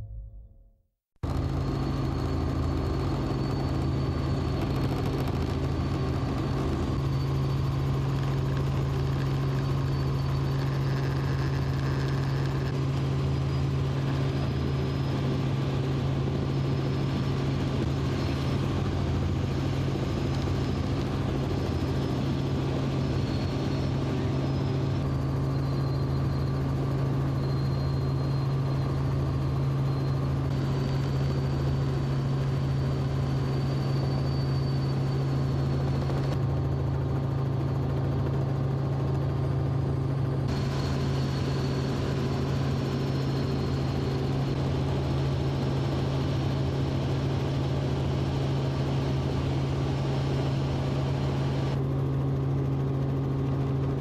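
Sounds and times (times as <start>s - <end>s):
faint high whine: 0.0s - 54.0s
helicopter engine and rotor drone: 1.2s - 54.0s.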